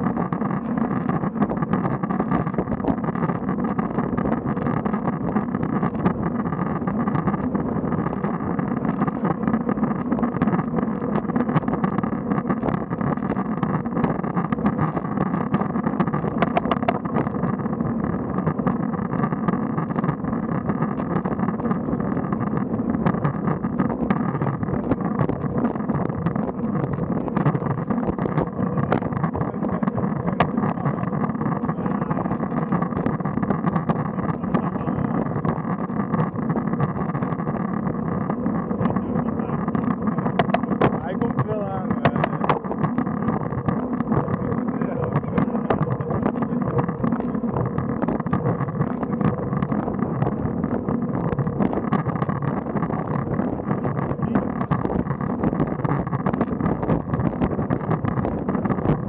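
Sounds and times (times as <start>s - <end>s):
bicycle road and wind noise: 0.0s - 59.0s
faint clicks: 0.0s - 59.0s.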